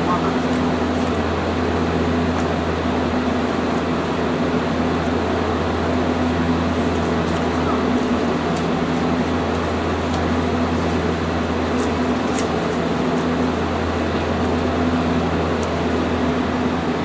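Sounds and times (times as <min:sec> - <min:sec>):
streetcar cabin hum and rumble: 0:00.0 - 0:17.0.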